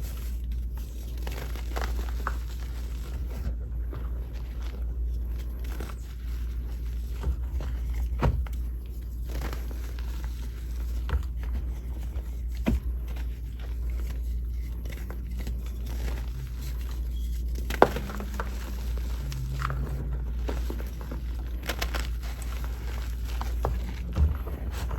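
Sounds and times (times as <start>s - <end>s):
chalk crunching and crackling: 0.0s - 24.9s
steady low hum: 0.0s - 24.9s.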